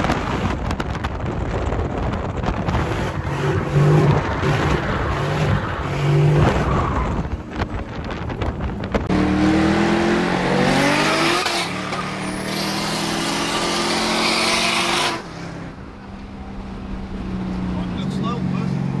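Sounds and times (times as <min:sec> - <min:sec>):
car engine pulling hard: 0:00.0 - 0:19.0.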